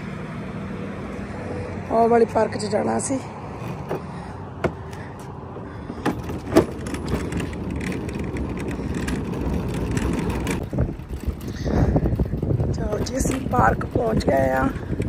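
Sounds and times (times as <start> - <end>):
road traffic noise: 0.0 - 15.0
vehicle passing: 0.0 - 15.0.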